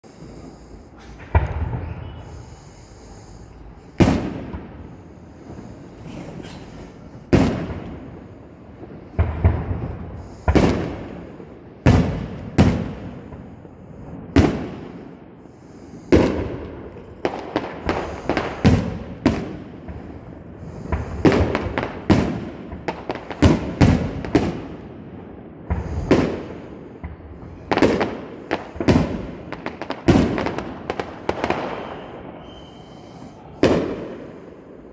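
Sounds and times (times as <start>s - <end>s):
fireworks banging: 0.0s - 34.9s.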